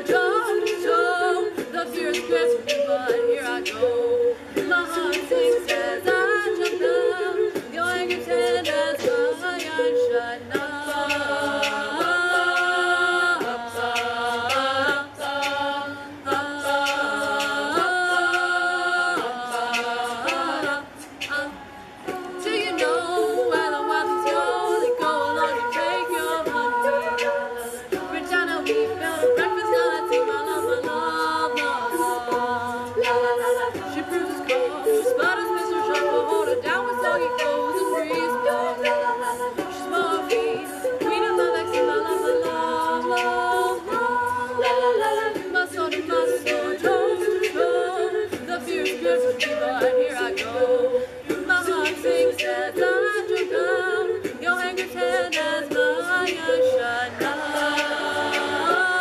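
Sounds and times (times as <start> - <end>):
vocal percussion beat: 0.0 - 59.0
women singing a cappella: 0.0 - 59.0.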